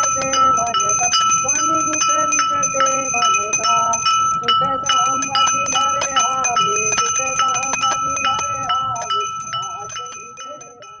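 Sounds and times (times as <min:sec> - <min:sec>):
small hand bell ringing rapidly: 0:00.0 - 0:11.0
voices singing: 0:00.0 - 0:11.0.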